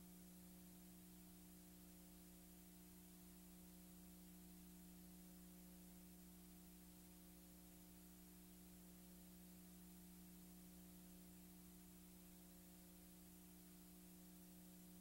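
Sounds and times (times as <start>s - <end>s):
faint electrical hum with hiss: 0.0s - 15.0s.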